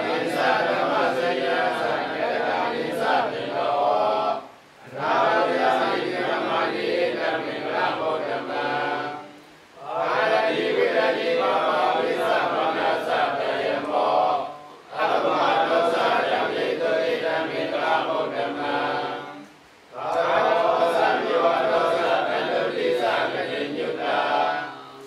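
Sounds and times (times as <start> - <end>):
monks chanting in unison: 0.0 - 25.0.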